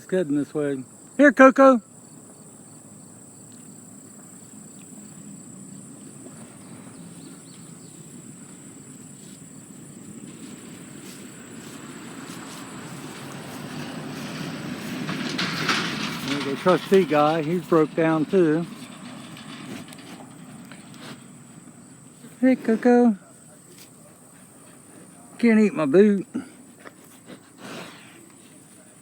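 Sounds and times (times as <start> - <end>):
crickets trilling: 0.0 - 29.0
vehicle engine rumble: 1.8 - 29.0.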